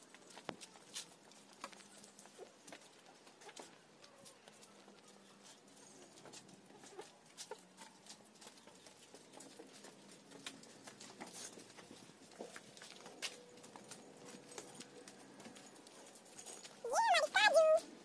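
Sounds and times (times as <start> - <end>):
hooves tapping on concrete: 0.0 - 17.9.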